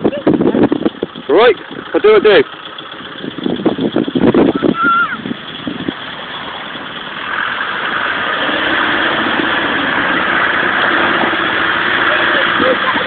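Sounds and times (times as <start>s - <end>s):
car engine under load: 0.0s - 13.0s.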